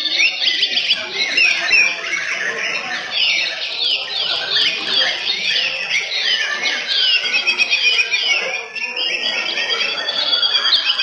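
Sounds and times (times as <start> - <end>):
birds singing whistled notes: 0.0 - 11.0.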